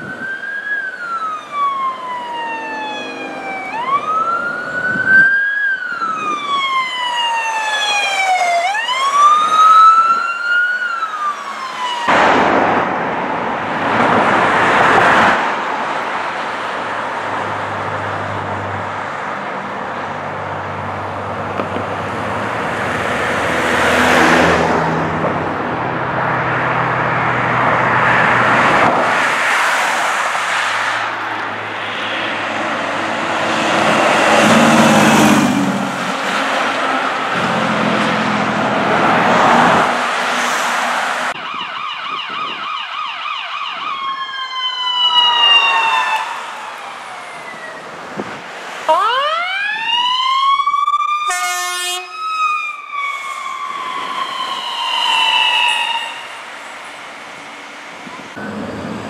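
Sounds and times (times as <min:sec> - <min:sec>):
police siren wailing: 0:00.0 - 0:15.3, 0:20.7 - 0:59.0
rushing road noise: 0:00.0 - 0:59.0.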